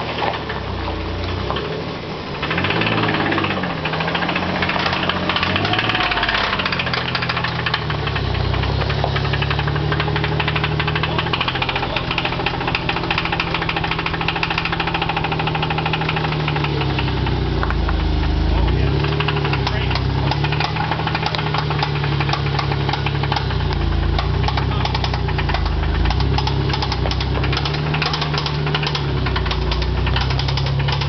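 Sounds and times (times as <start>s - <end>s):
truck engine with rod knock: 2.4s - 31.0s.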